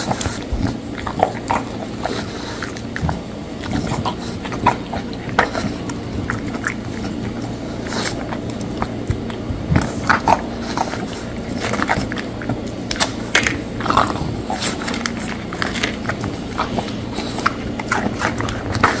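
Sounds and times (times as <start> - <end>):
dog chewing crunchy crackers: 0.0 - 19.0.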